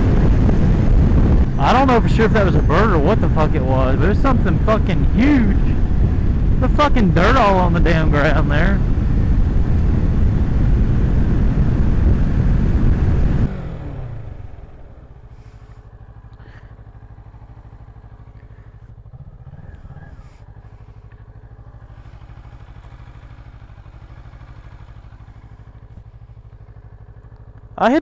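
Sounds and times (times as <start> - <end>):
motorcycle engine idling: 0.0 - 28.0
wind and road noise: 0.0 - 28.0.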